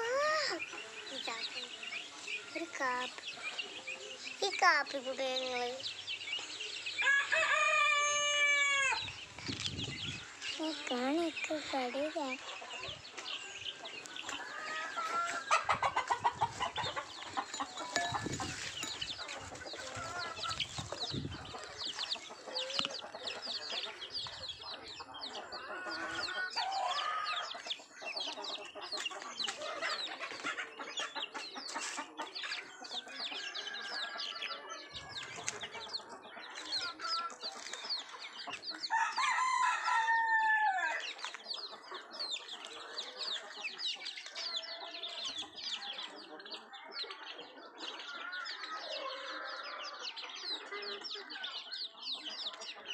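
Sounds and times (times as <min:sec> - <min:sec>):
chickens clucking: 0:00.0 - 0:52.9
chicks peeping: 0:00.0 - 0:52.9.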